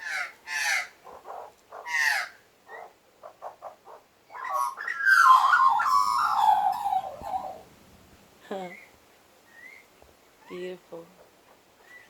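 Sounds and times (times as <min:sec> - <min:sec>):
bird warbling song: 0:00.0 - 0:07.6, 0:08.6 - 0:12.0
birds calling: 0:00.0 - 0:07.7, 0:08.5 - 0:12.0.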